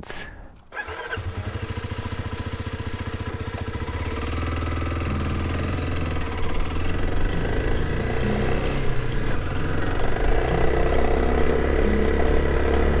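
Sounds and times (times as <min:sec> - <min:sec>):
motorcycle engine running: 0:00.7 - 0:13.0.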